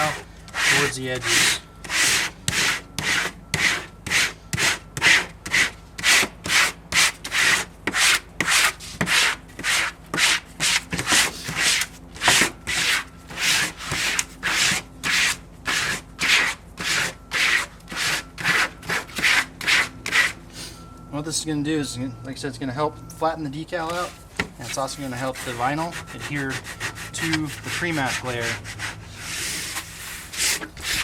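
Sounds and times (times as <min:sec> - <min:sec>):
squeegee scraping over vinyl: 0:00.0 - 0:20.4, 0:23.9 - 0:31.0.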